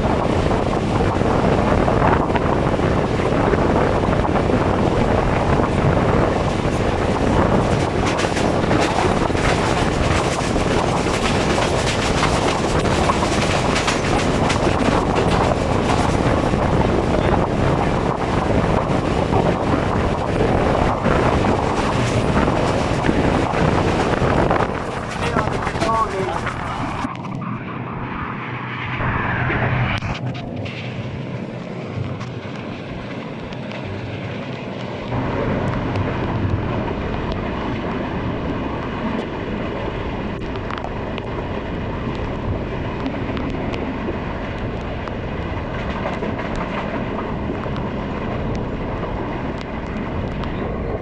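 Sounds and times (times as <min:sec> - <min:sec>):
rushing air: 0:00.0 - 0:51.0
train wheels rumbling on rail: 0:00.0 - 0:51.0.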